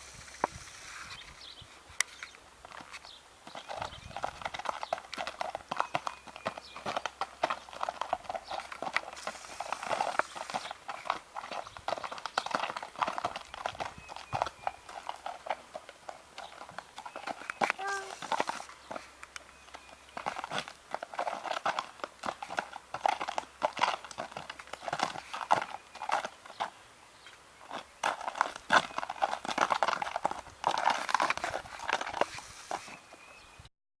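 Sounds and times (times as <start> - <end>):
horse hooves clip-clopping: 0.0 - 33.7.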